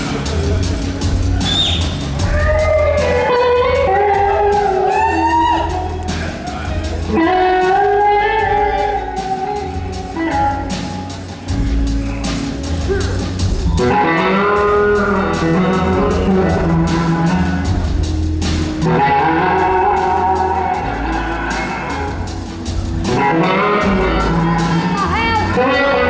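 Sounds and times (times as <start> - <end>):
blues-rock band playing: 0.0 - 26.0
electric guitar lead bending notes: 0.0 - 26.0.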